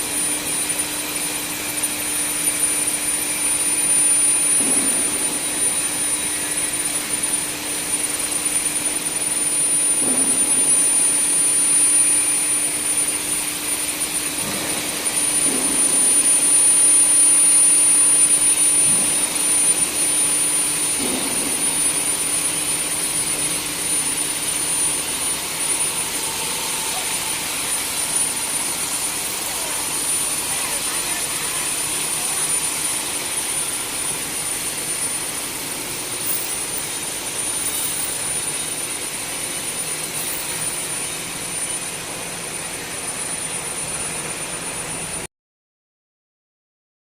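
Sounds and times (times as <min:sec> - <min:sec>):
furnace high-pitched whine: 0:00.0 - 0:45.3.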